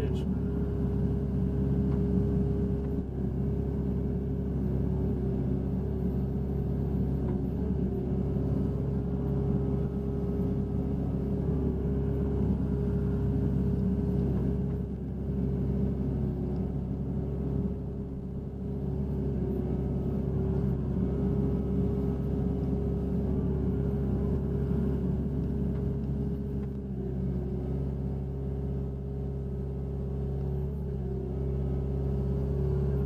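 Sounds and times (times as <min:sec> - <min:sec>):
excavator diesel engine and hydraulics: 0:00.0 - 0:33.0.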